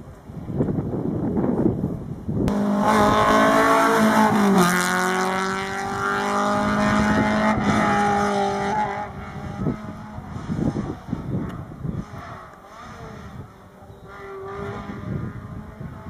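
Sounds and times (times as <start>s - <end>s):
rally car engine at high revs: 2.5s - 16.0s.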